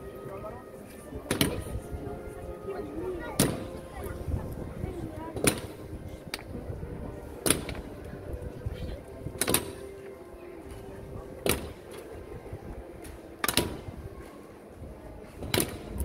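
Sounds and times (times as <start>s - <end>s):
low background murmur: 0.0s - 16.0s.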